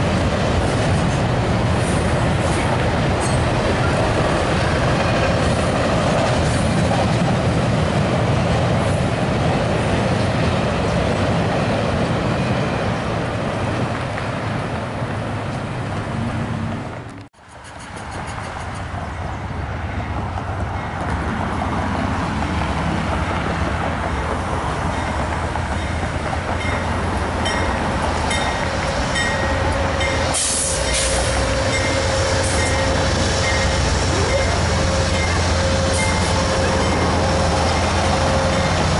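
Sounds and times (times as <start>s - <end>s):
diesel locomotives rumbling: 0.0s - 38.9s
freight train on steel bridge: 0.0s - 38.9s.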